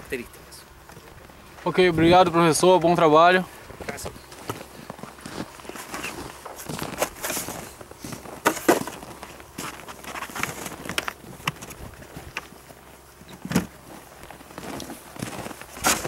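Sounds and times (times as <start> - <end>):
crunching on packed snow: 0.3 - 16.0.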